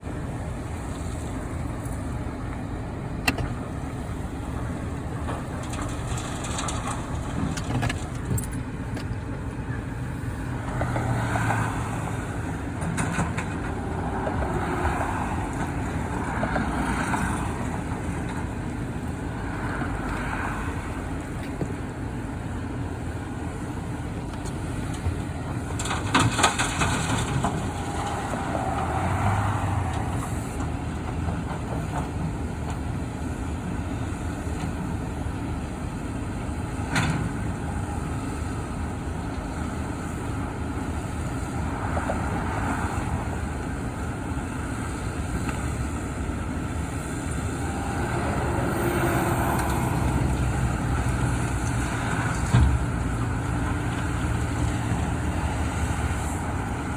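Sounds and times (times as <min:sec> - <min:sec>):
diesel machinery rumbling: 0:00.0 - 0:56.9.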